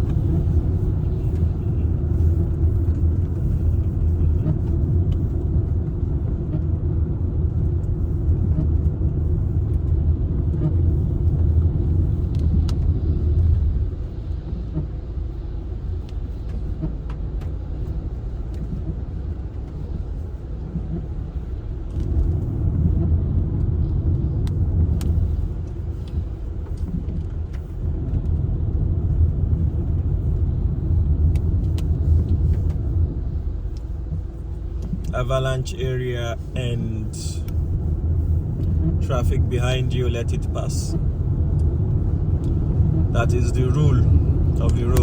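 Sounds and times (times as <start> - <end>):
car road and engine rumble: 0.0 - 45.0.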